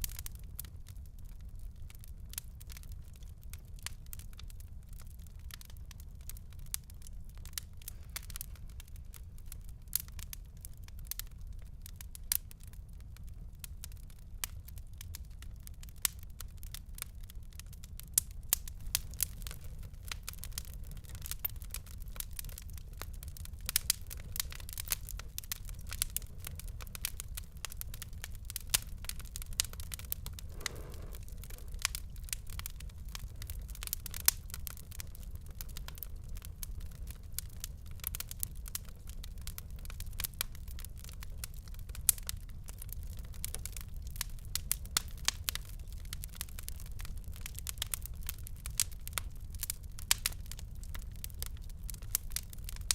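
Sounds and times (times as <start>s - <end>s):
fire crackling and popping: 0.0s - 52.9s
low rumble of flames: 0.0s - 52.9s.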